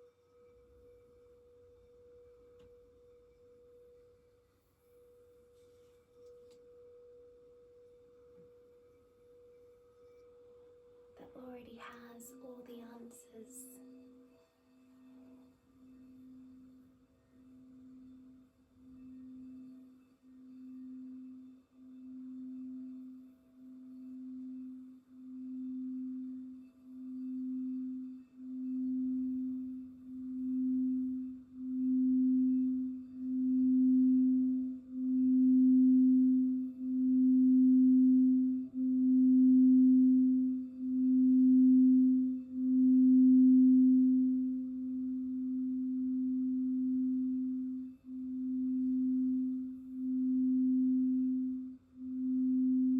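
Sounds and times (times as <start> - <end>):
crystal singing bowl tone: 0.0 - 52.9.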